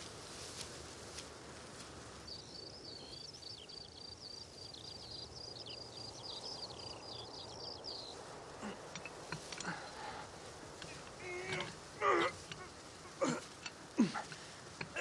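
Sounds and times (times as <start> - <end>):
outdoor background noise: 0.0 - 15.0
songbird chirping: 0.0 - 15.0.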